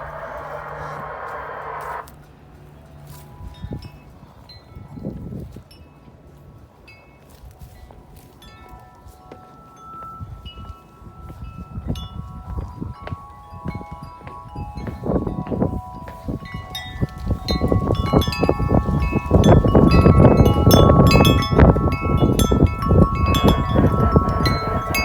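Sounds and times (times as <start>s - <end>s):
wind chime ringing: 0.0s - 2.1s, 6.9s - 25.0s
wind rumble on microphone: 0.0s - 25.0s.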